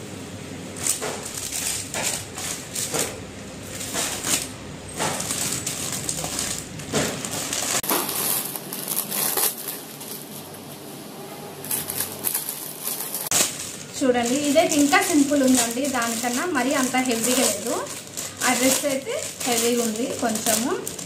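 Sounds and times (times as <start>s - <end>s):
plastic bags crinkling: 0.7s - 10.9s, 11.6s - 21.0s.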